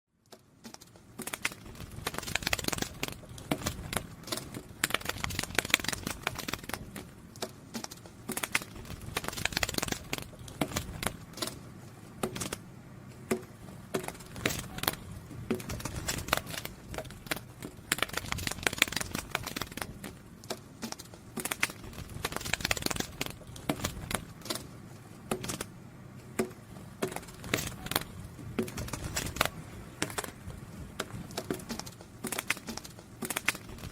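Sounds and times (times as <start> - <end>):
butterfly wings fluttering: 0.6 - 7.1, 7.7 - 11.6, 13.9 - 20.2, 20.8 - 24.7, 27.0 - 33.9.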